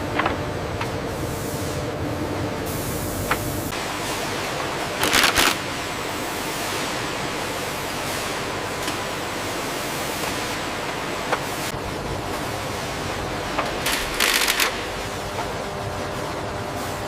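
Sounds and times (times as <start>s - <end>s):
factory machinery hissing: 0.5s - 17.0s.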